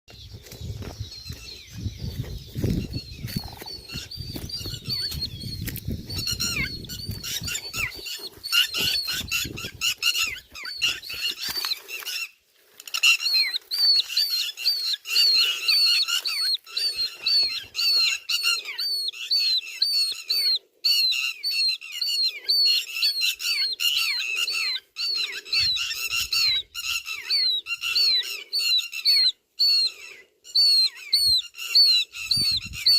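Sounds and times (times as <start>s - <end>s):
lapwing calling: 0.3s - 32.9s.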